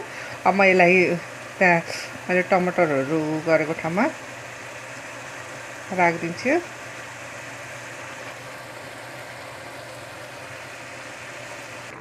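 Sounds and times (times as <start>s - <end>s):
curry simmering hiss: 0.0s - 12.0s.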